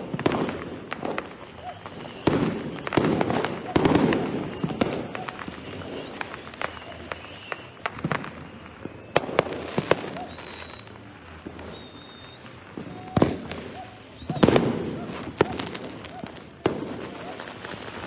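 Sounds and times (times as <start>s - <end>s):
fireworks bangs and cracks: 0.0s - 18.0s
high whistles: 0.9s - 18.0s.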